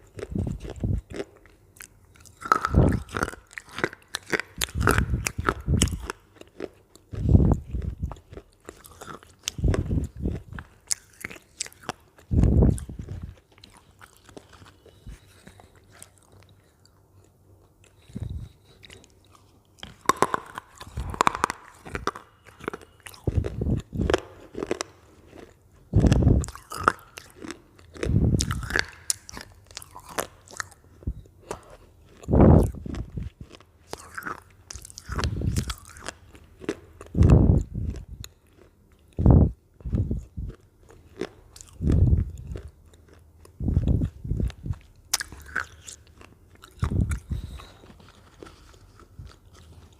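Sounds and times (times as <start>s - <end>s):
crunching potato chips: 0.0s - 39.2s, 39.8s - 49.9s.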